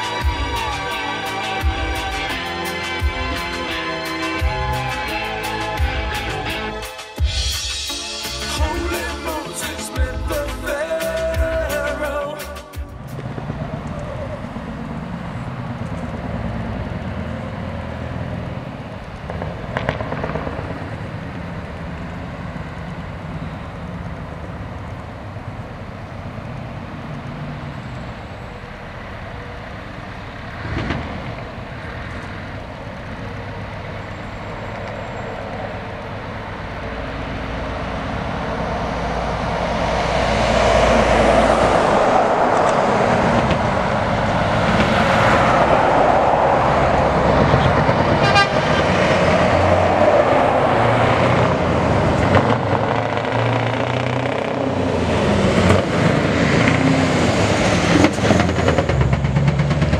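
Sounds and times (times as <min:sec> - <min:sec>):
diesel truck engine approaching: 0:00.0 - 0:59.9.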